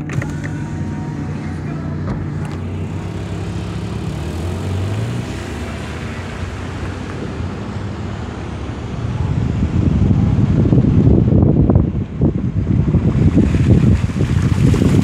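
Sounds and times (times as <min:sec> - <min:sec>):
car engine hum: 0:00.0 - 0:15.0
road and water noise: 0:00.0 - 0:15.0.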